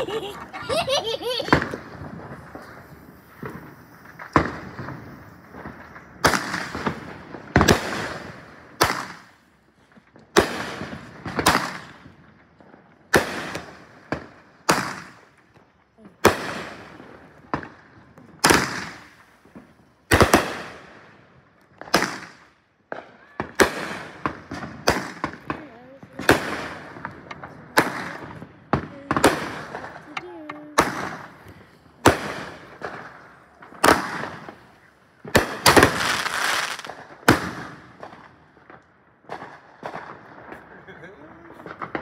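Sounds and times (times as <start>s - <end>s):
firework bangs with echo: 0.0s - 9.4s, 10.3s - 12.2s, 13.0s - 15.4s, 16.2s - 21.2s, 21.8s - 42.0s.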